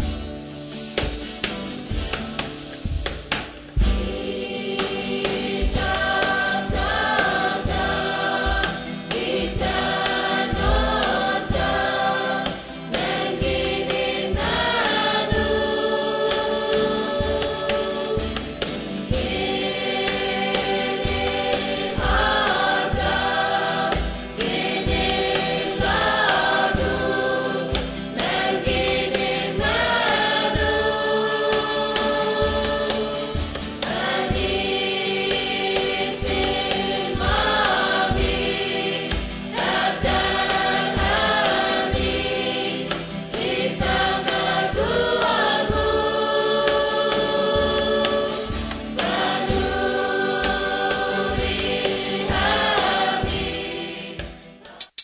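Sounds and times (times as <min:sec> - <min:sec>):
steady drum beat: 0:00.0 - 0:55.0
choir singing held chords: 0:03.8 - 0:55.0.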